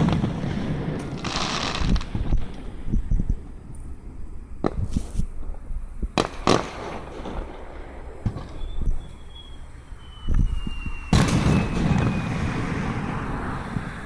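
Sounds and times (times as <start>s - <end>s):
fireworks bangs: 0.0s - 14.0s
fireworks crackle: 0.0s - 14.0s.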